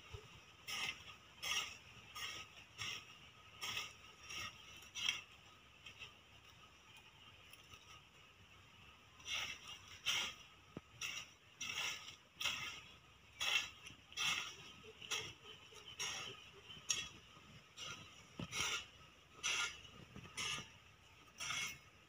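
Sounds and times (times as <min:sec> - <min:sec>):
hoe chopping into dry soil: 0:00.1 - 0:05.3, 0:09.2 - 0:21.9.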